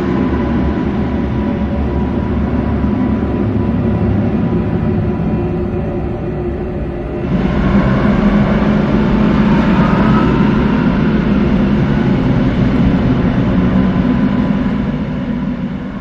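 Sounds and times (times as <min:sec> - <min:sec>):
droning rumble of traffic: 0:00.0 - 0:16.0.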